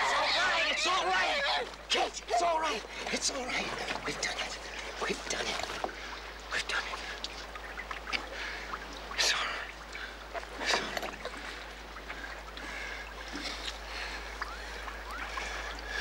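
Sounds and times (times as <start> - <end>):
sharp splashes: 0.0 - 16.0
water sloshing against hull: 0.0 - 16.0.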